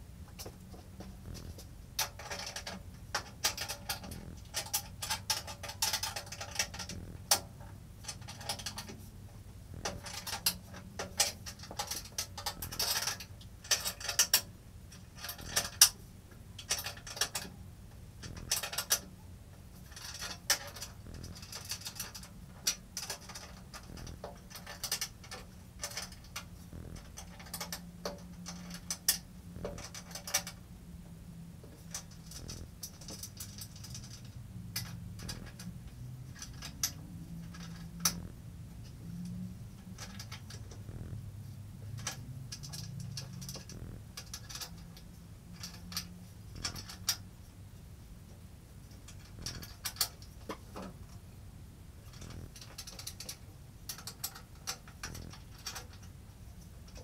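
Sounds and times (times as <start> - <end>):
faint low hum: 0.0 - 57.0
metal parts clinking and rattling: 1.2 - 9.1, 9.8 - 16.0, 16.6 - 17.6, 18.2 - 30.6, 31.7 - 41.1, 41.9 - 47.3, 48.9 - 51.2, 52.0 - 56.2.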